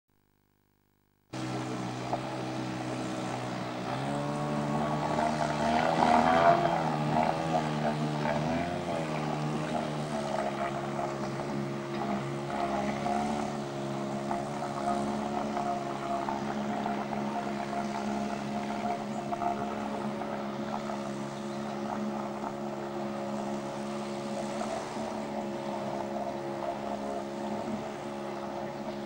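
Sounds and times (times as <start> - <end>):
outboard motor running: 0.1 - 29.0.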